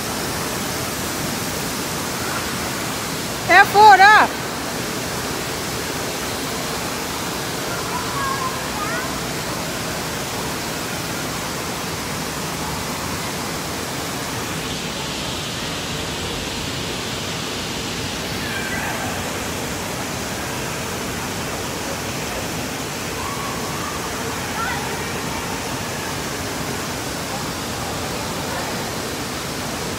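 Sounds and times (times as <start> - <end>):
rushing water: 0.0 - 29.9.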